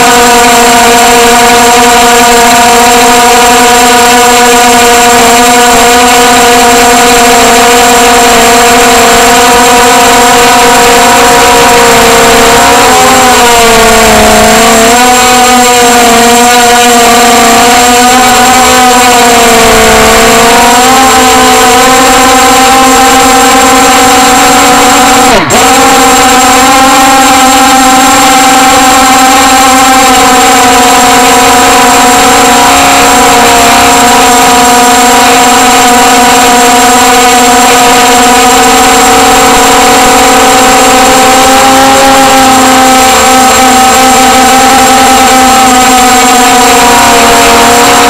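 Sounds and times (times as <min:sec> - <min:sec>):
model aircraft motor and propeller: 0:00.0 - 0:48.0.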